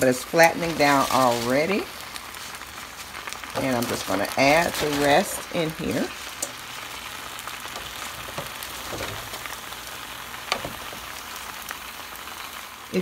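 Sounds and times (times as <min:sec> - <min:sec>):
oil sizzling in a skillet: 0:00.0 - 0:13.0.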